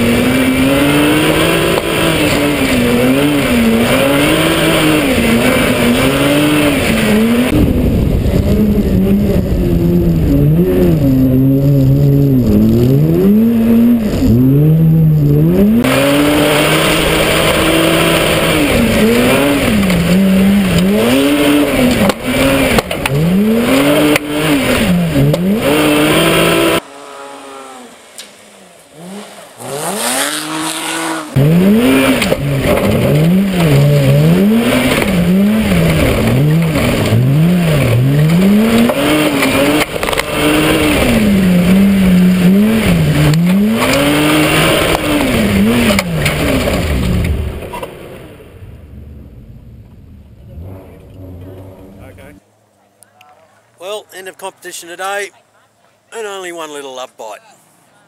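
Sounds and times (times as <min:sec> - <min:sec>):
rally car engine revving: 0:00.0 - 0:52.5.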